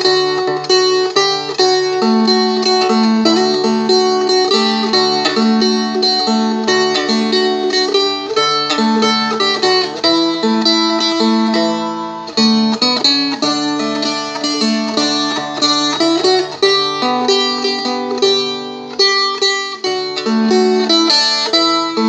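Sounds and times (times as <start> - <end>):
plucked strumstick melody: 0.0 - 22.0.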